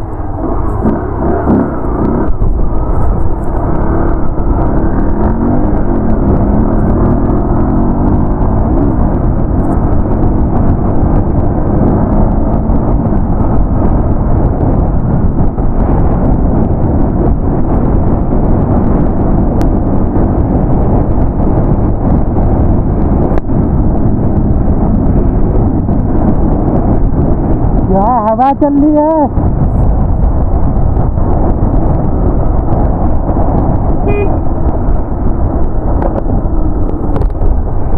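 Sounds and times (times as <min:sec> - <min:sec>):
wind rumble on microphone: 0:00.0 - 0:37.9.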